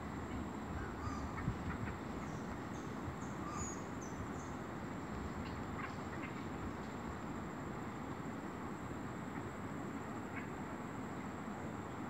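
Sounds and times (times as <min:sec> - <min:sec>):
wild birds chirping: 0:00.0 - 0:12.0.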